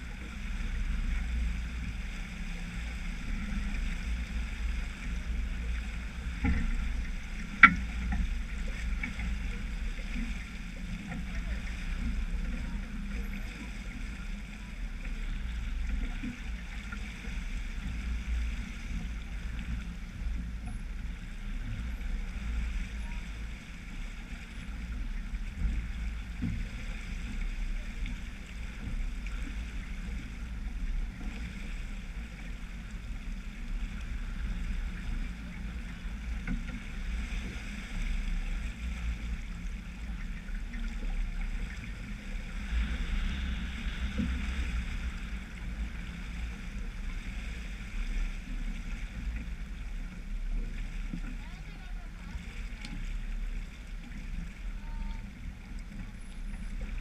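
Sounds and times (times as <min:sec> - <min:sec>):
water rushing along hull: 0:00.0 - 0:57.0
wind rumble on microphone: 0:00.0 - 0:57.0.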